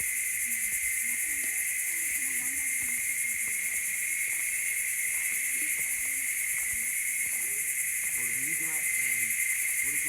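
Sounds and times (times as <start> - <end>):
insect chorus buzzing: 0.0 - 10.0
faint voices talking: 0.4 - 4.4, 5.2 - 10.0.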